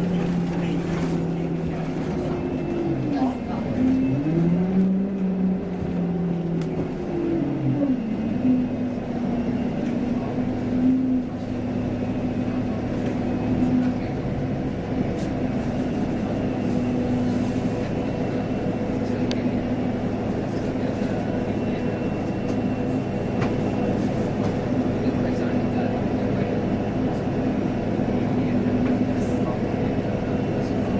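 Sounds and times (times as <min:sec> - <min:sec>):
bus engine humming: 0:00.0 - 0:30.9.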